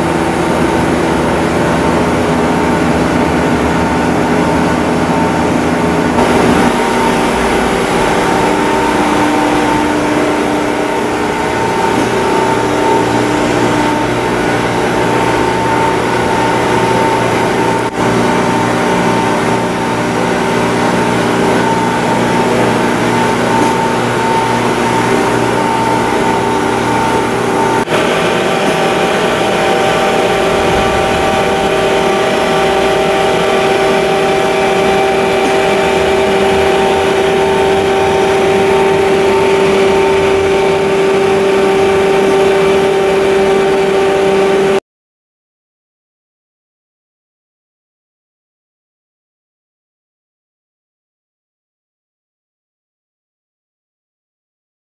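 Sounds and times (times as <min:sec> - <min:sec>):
machine tool hum and whine: 0:00.0 - 0:44.8.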